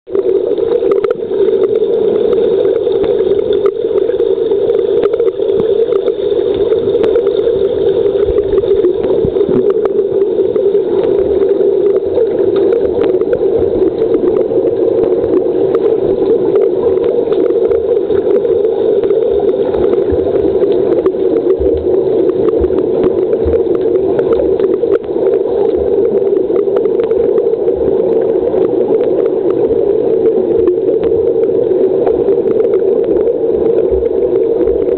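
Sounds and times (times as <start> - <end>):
faint underwater clicks: 0.1 - 34.9
underwater drone-like hum with hiss: 0.1 - 34.9.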